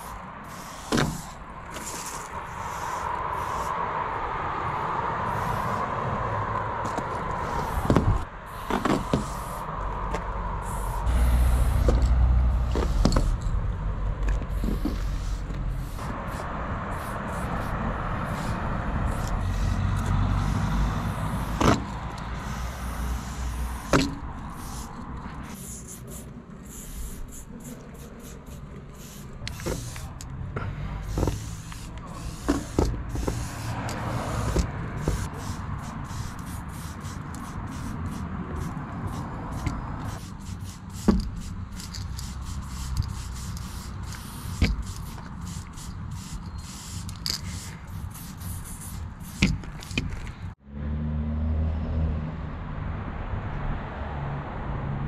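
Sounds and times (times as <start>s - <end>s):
spray paint can hissing: 0.0s - 3.8s, 4.7s - 6.0s, 6.8s - 50.5s
steady low rumble: 0.0s - 46.3s.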